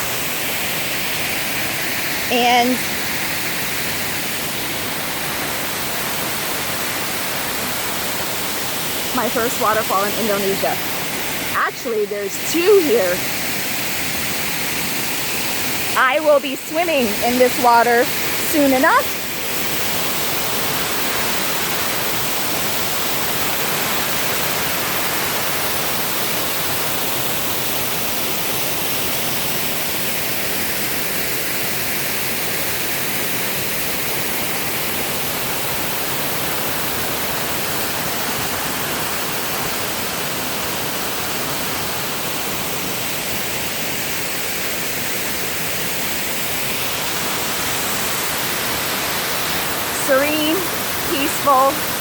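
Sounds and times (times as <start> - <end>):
waterfall roaring: 0.0 - 52.0.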